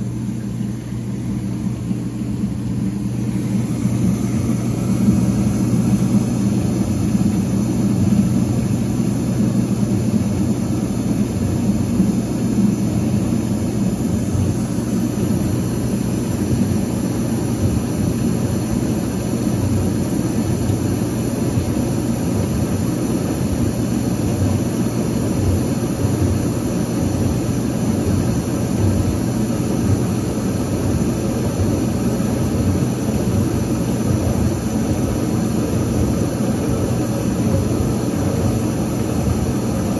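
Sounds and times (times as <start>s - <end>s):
dishwasher running: 0.0s - 39.9s.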